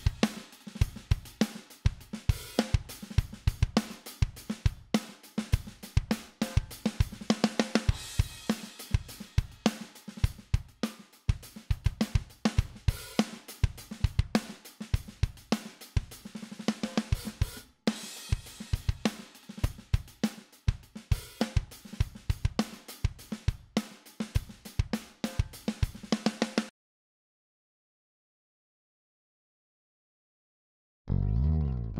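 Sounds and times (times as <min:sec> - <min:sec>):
drum kit playing a beat: 0:00.0 - 0:26.7.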